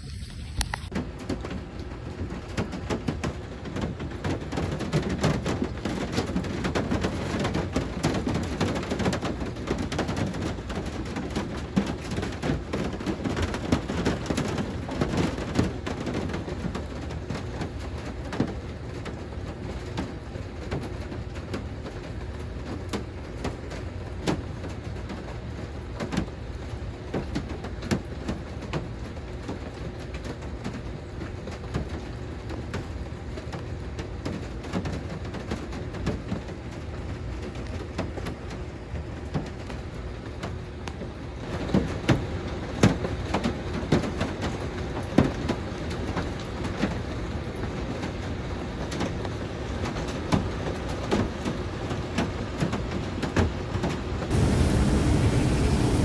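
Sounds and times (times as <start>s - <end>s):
rain and hail on a roof: 0.0s - 56.0s.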